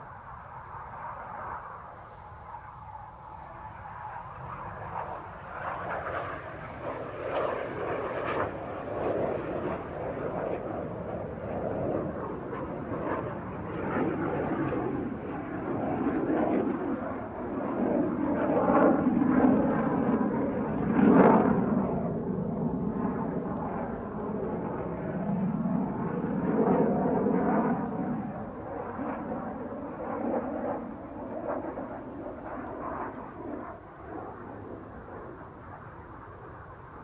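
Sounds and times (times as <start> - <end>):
jet flying overhead: 0.0 - 37.0.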